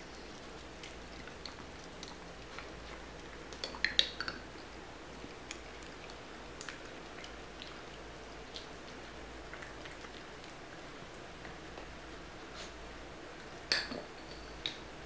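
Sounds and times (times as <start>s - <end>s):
dogs licking: 0.0s - 14.1s.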